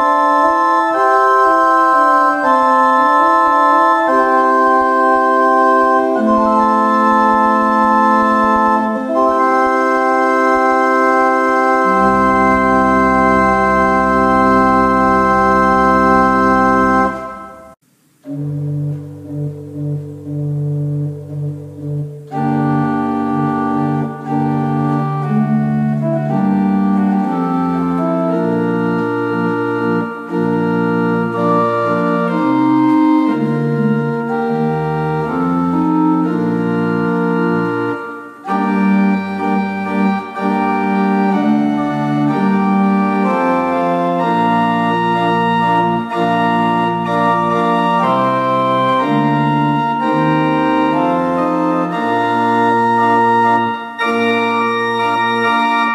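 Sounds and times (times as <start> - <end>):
pipe organ playing slow chords: 0.0 - 55.9.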